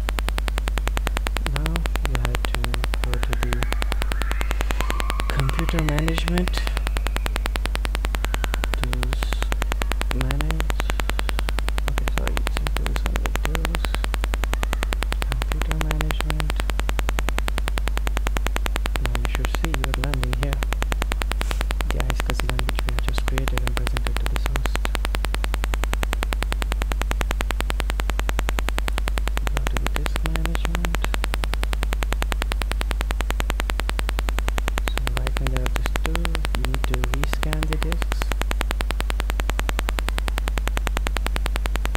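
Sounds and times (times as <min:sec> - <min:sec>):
electrical hum and buzz: 0:00.0 - 0:41.9
faint muffled low sounds: 0:00.0 - 0:41.9.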